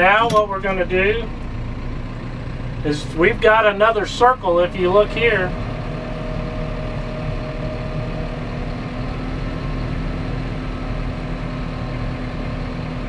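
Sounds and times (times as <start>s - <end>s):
low hum: 0.0s - 13.0s
tractor diesel engine running: 0.0s - 13.0s.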